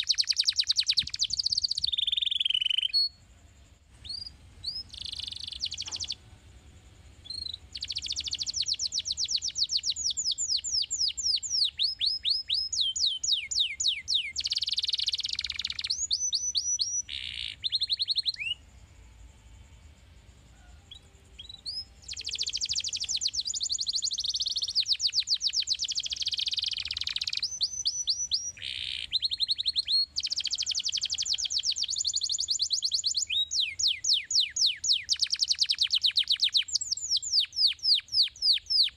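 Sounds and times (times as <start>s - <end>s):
canary singing trills: 0.0s - 19.6s, 20.4s - 38.9s.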